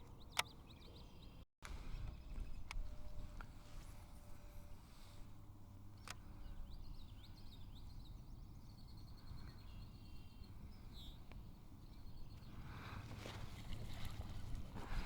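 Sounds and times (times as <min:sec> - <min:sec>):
songbird chirping and trilling: 0:00.0 - 0:13.4.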